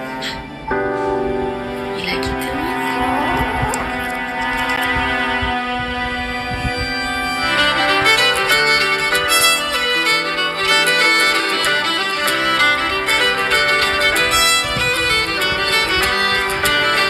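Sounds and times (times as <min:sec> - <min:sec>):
lively violin string tune: 0:00.0 - 0:17.0.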